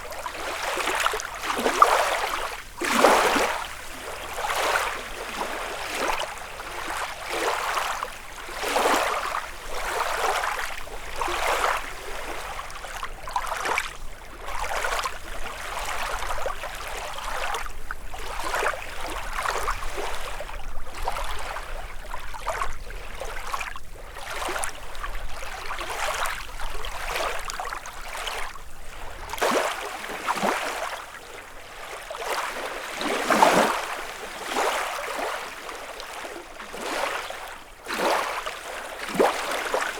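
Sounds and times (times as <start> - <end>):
waves lapping against shore: 0.0 - 39.9.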